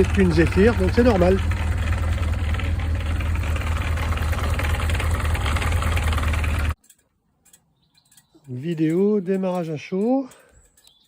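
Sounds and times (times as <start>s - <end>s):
engine idling with rattle: 0.0s - 11.0s.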